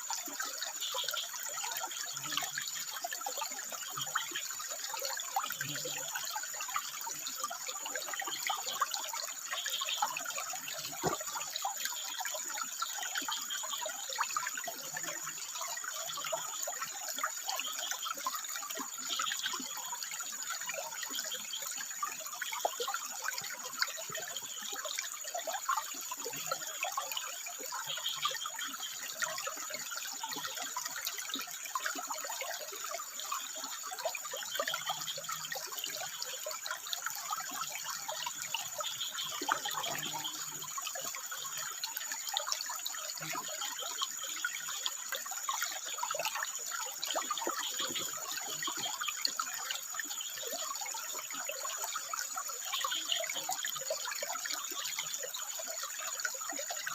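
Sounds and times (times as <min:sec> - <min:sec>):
water trickling over rocks: 0:00.0 - 0:56.9.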